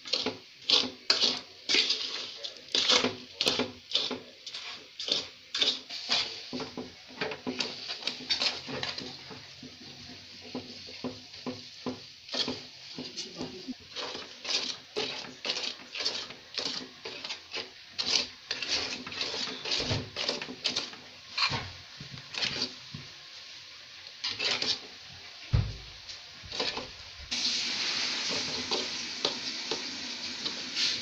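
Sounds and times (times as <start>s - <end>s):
spoon scraping and stirring in pan: 0.0s - 31.0s
steady hiss: 0.0s - 31.0s.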